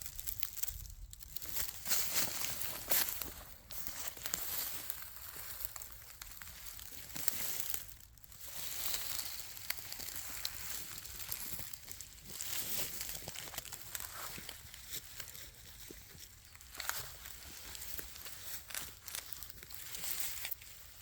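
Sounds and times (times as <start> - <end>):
crunching footsteps: 0.0 - 21.0
dry leaves being trampled: 0.0 - 21.0.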